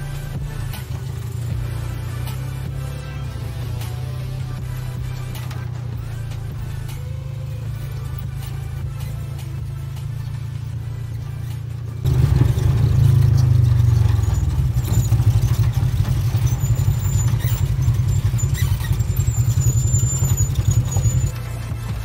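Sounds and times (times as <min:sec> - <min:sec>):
buggy engines rumbling: 0:00.0 - 0:22.0.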